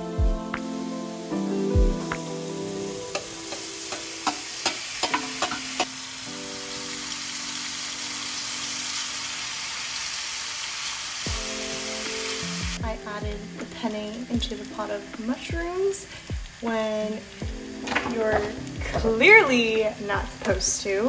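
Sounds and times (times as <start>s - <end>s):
steady sizzle from hot pan: 0.7s - 21.0s.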